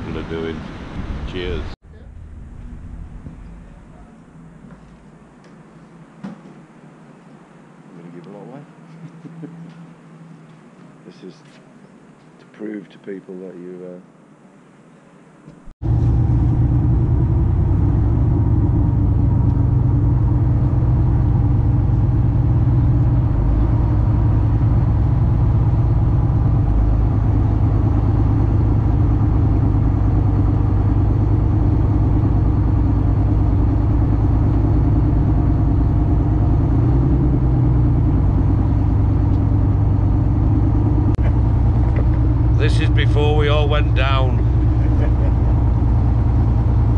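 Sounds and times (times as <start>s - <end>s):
boat engine droning: 0.0s - 11.2s, 15.8s - 46.9s.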